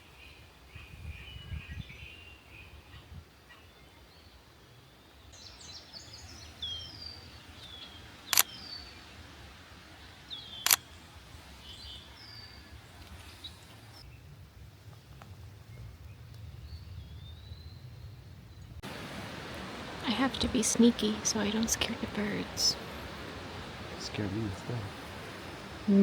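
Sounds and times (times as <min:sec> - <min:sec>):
birds chirping: 0:00.0 - 0:14.1, 0:18.5 - 0:26.0.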